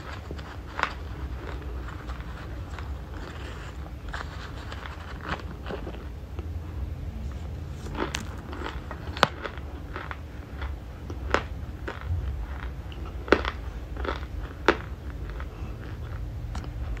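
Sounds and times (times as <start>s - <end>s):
crisp chewing crunches: 0.0s - 6.5s, 7.7s - 17.0s
low steady hum: 0.0s - 17.0s.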